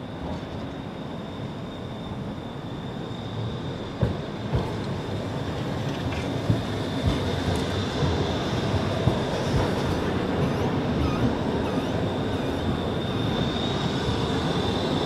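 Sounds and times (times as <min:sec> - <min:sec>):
tram rumbling past: 0:00.0 - 0:15.0.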